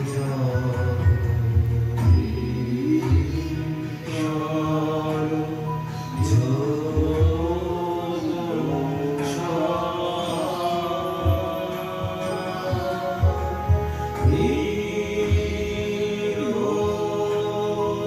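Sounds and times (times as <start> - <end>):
steady low accompaniment: 0.0 - 18.0
voices singing devotional chant: 0.0 - 18.0.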